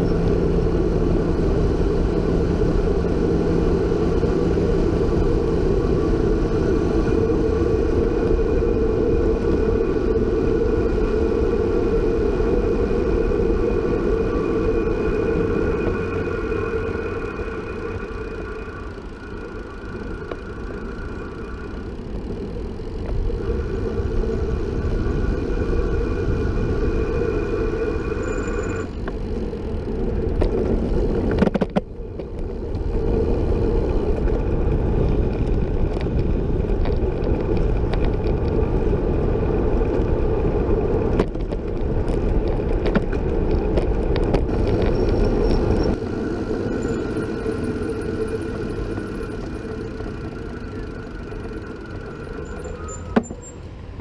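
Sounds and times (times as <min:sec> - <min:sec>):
steady thin whine: 0:00.0 - 0:54.0
tyre noise on road: 0:00.0 - 0:54.0
wind rushing over microphone: 0:00.0 - 0:54.0.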